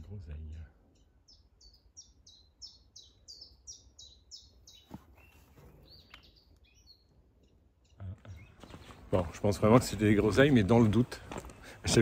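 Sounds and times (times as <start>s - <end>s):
small bird singing: 0.0s - 12.0s.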